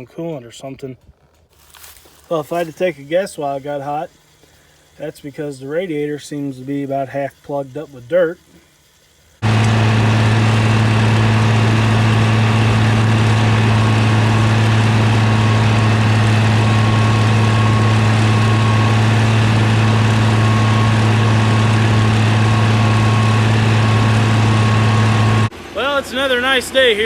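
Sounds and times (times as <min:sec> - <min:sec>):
tractor diesel engine running: 0:01.6 - 0:27.0.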